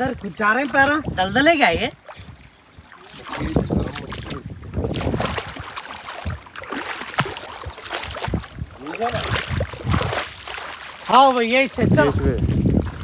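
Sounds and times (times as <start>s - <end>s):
feet wading through water and mud: 0.0s - 13.0s.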